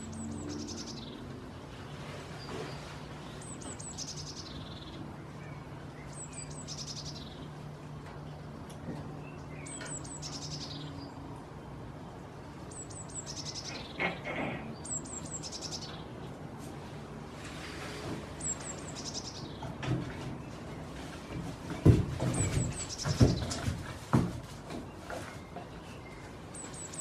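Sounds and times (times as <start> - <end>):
songbird singing: 0.0 - 16.6, 18.2 - 23.9, 24.7 - 27.0.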